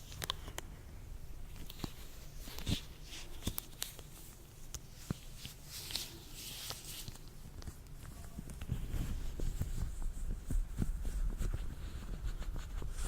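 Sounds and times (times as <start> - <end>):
latex gloves rustling: 0.0 - 13.0.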